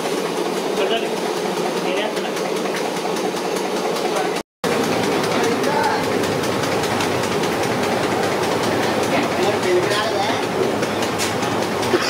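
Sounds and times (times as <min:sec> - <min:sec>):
burners running: 0:00.0 - 0:12.0.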